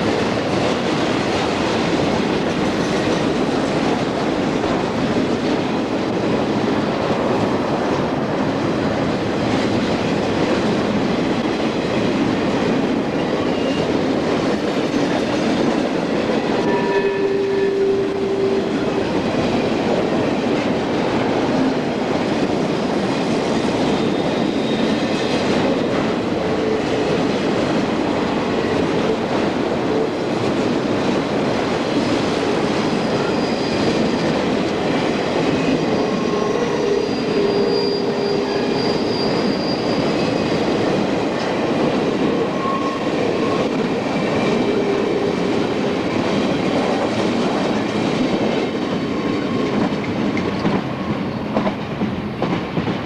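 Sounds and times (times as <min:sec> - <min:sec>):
freight train rumbling on rails: 0:00.0 - 0:53.0.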